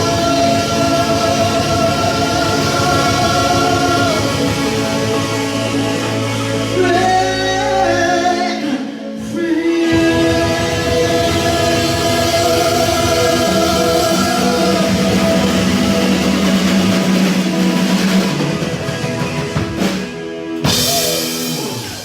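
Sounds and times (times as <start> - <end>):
busy drumming: 0.0 - 6.3, 9.9 - 22.0
live rock band playing: 0.0 - 8.7, 9.3 - 22.0.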